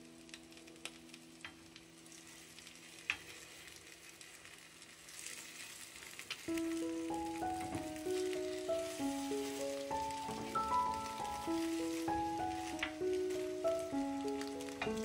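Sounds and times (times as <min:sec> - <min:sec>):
bread sizzling in butter: 0:00.0 - 0:15.0.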